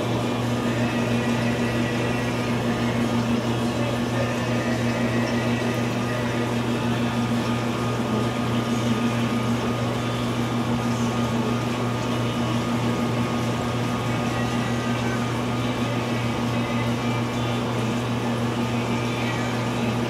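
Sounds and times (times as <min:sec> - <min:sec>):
water pump humming: 0:00.0 - 0:20.0.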